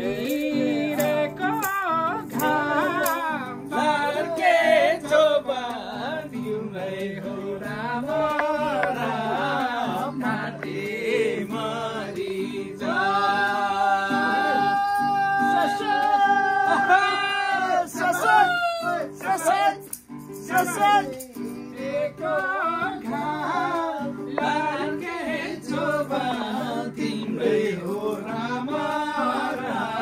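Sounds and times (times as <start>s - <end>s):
folk song with singing voice: 0.0s - 30.0s
instrumental backing: 0.0s - 30.0s.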